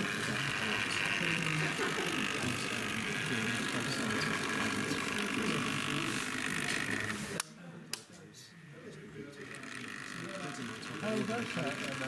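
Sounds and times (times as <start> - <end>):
people chattering: 0.0 - 12.0.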